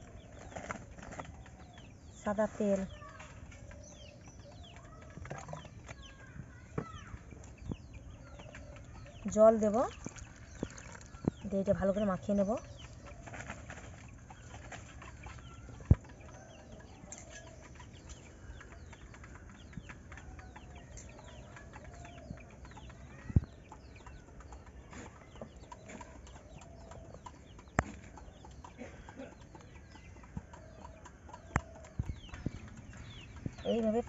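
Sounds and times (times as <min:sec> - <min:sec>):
chickens clucking: 0:00.0 - 0:34.0
small birds chirping: 0:00.0 - 0:34.0.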